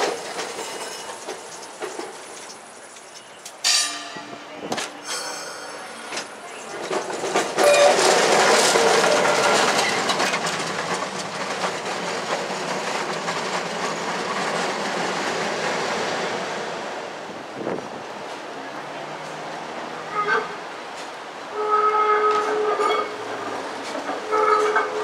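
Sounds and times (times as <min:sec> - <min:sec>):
streetcar wheels rumbling on rails: 0:00.0 - 0:25.0.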